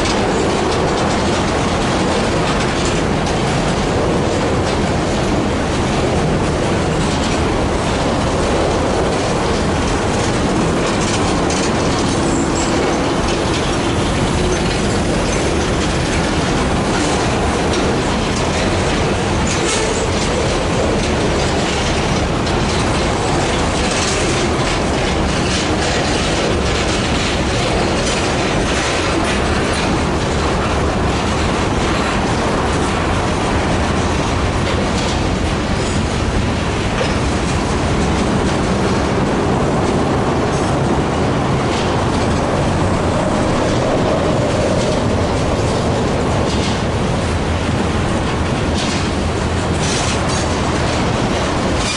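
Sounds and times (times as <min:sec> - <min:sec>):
freight train cars rumbling: 0:00.0 - 0:51.9
wheels clicking over rail joints: 0:00.0 - 0:51.9.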